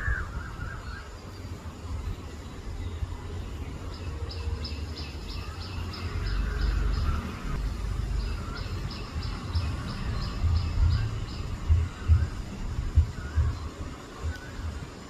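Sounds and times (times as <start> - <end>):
bird chirping: 0.0 - 15.0
steady low rumble: 1.3 - 15.0.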